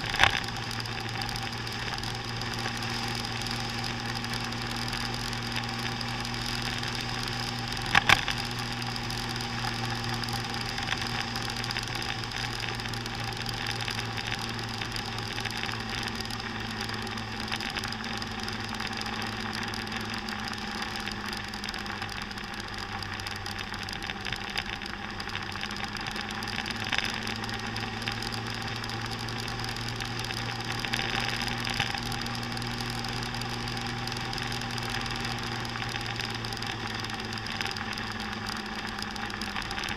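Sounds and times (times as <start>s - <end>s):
motor scooter engine running: 0.0s - 39.9s.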